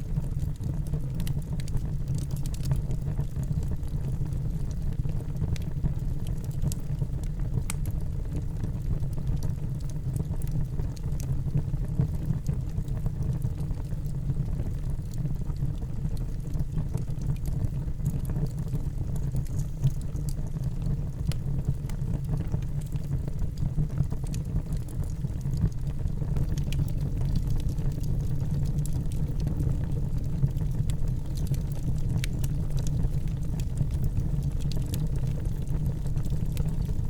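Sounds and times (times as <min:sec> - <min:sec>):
wood fire rumbling and crackling: 0:00.0 - 0:37.0.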